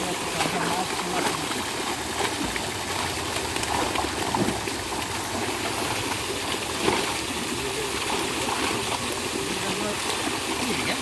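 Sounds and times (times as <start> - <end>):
fish thrashing in a net: 0.0 - 11.0
water splashing and churning: 0.0 - 11.0.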